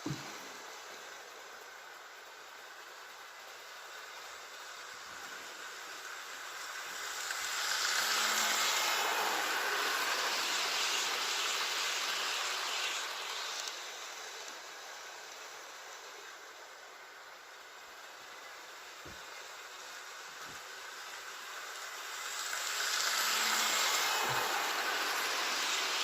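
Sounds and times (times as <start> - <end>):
model train wheels rattling: 0.0 - 26.0.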